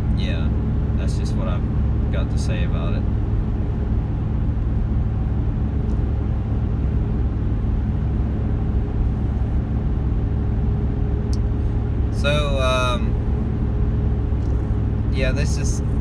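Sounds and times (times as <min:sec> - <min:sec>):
vehicle road and engine noise: 0:00.0 - 0:16.0.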